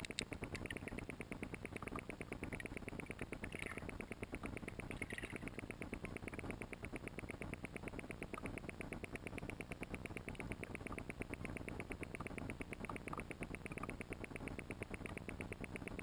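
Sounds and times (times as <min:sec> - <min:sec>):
fast underwater ticking: 0:00.0 - 0:16.0.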